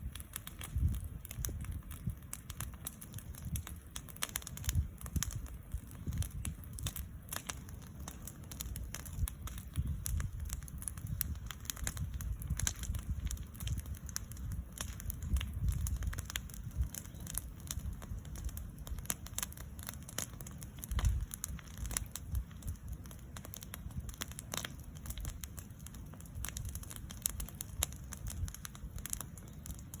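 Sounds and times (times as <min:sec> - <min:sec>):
burn pile crackling and popping: 0:00.0 - 0:30.0.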